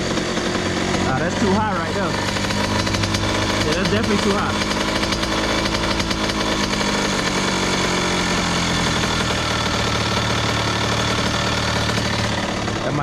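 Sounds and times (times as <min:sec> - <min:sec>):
two-stroke engine idling: 0:00.0 - 0:13.0.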